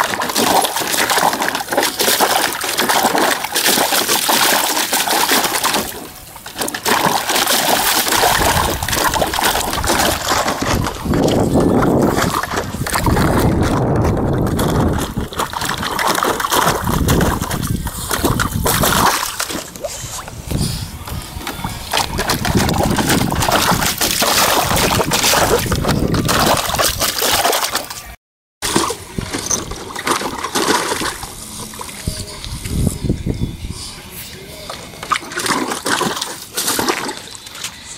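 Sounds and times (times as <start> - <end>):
dog splashing water in a pool: 0.0 - 20.7, 21.4 - 32.0, 34.6 - 37.7.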